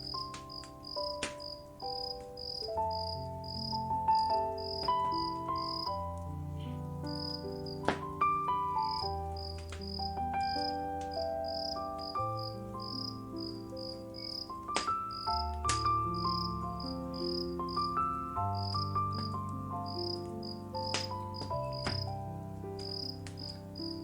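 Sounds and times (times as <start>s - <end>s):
crickets chirping: 0.0s - 24.0s
soft ambient music: 0.0s - 24.0s
wood fire crackling: 0.0s - 24.0s.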